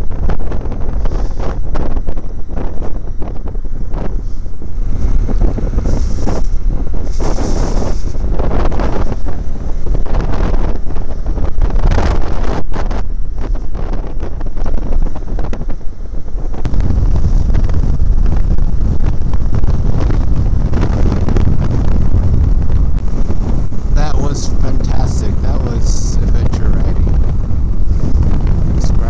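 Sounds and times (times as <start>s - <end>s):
motorcycle running: 0.0s - 29.0s
wind buffeting microphone: 0.0s - 29.0s.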